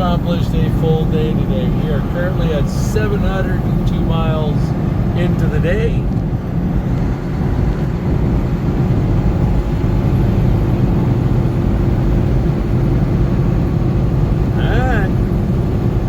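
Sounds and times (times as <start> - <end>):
truck engine and tyre drone: 0.0 - 16.0.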